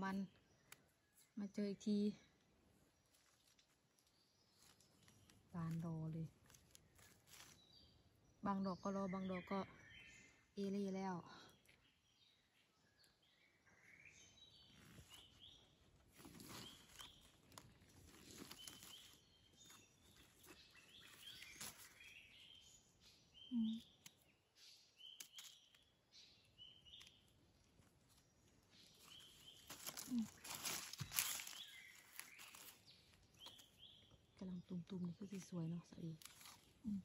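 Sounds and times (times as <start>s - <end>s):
rustling of dry leaves: 0.0s - 8.5s, 14.5s - 37.0s.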